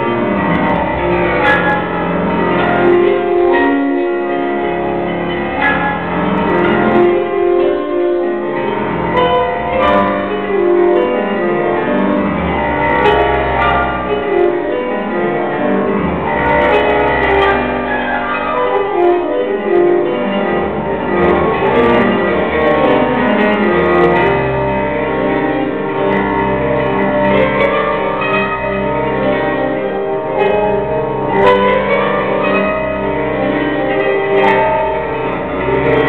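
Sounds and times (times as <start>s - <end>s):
instrumental ballet music: 0.0s - 36.0s.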